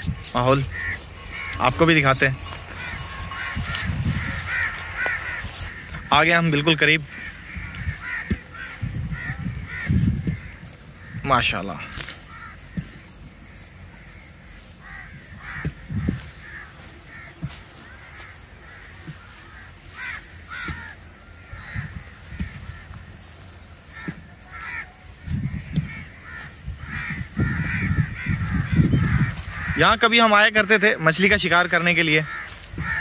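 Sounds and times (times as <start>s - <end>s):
flock of birds calling: 0.0s - 33.0s.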